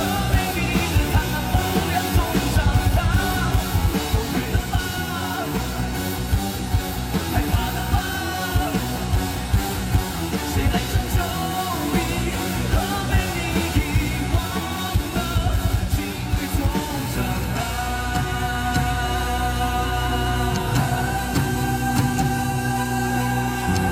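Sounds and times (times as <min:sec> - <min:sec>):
person singing: 0:00.0 - 0:05.9, 0:07.2 - 0:09.1, 0:10.4 - 0:23.9
rock band playing live: 0:00.0 - 0:23.9.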